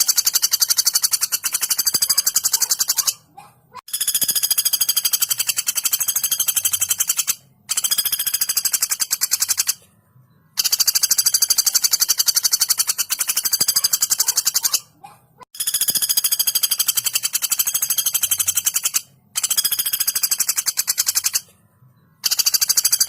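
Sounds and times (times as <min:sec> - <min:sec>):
woodpecker rattling trills: 0:00.0 - 0:09.8, 0:10.5 - 0:23.0.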